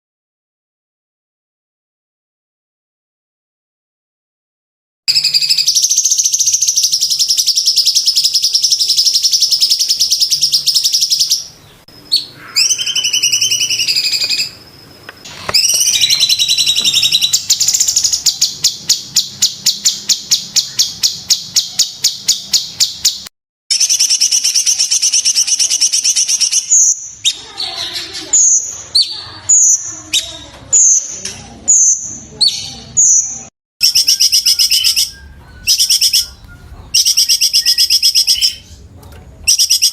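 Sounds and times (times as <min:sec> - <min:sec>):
bird singing high-pitched song: 0:05.1 - 0:39.9.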